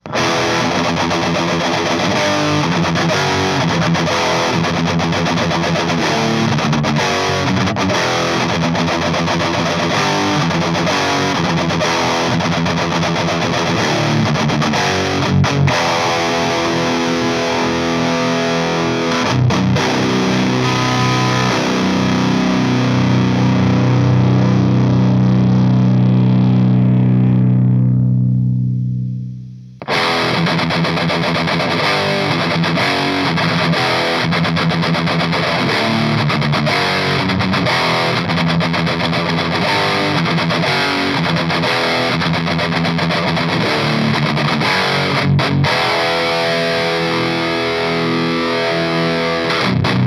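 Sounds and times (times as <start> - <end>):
distorted electric guitar riff: 0.0 - 50.0.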